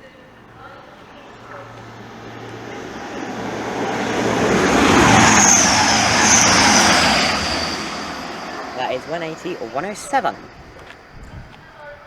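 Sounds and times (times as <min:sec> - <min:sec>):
diesel train passing: 0:00.0 - 0:12.0
high whine: 0:00.3 - 0:12.0.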